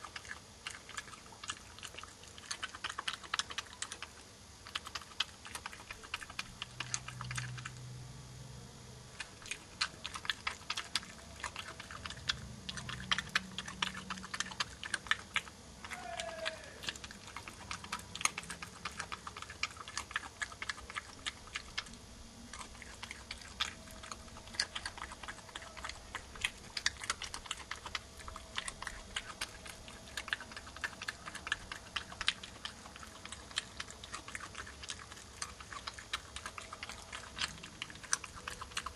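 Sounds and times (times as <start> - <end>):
animal crunching peanuts: 0.0 - 8.0, 9.1 - 38.9.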